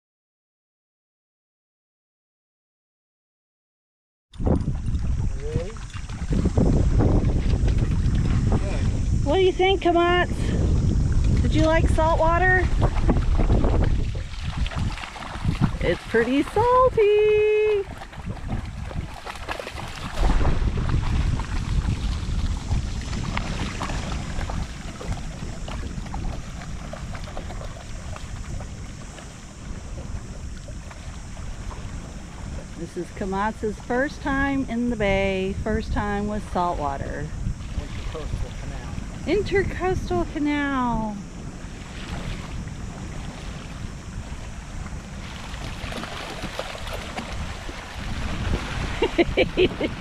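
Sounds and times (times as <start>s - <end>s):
wind rumbling on microphone: 4.3s - 50.0s
water splashing and lapping: 4.4s - 40.6s, 41.3s - 50.0s.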